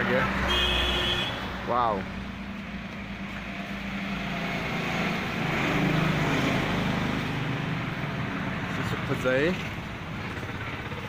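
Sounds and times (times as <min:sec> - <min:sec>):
passing motor vehicle engine hum: 0:00.0 - 0:11.0.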